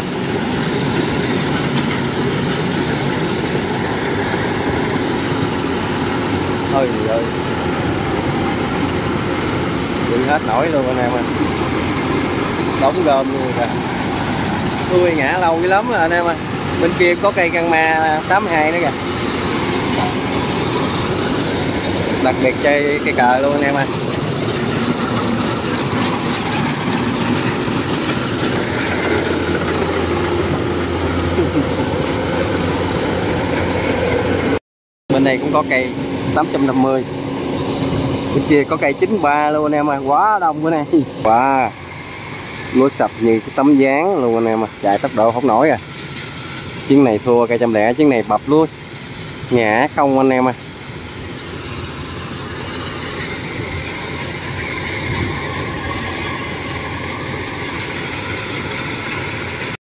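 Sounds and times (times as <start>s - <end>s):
combine harvester running: 0.0s - 59.8s.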